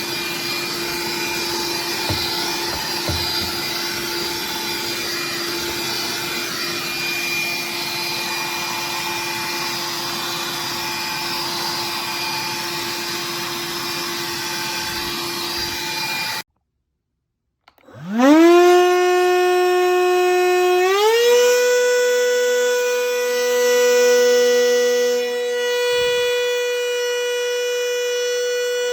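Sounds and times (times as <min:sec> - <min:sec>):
handheld vacuum humming: 0:00.0 - 0:16.4, 0:17.8 - 0:28.9
vacuum motor whine: 0:00.0 - 0:16.4, 0:17.8 - 0:28.9.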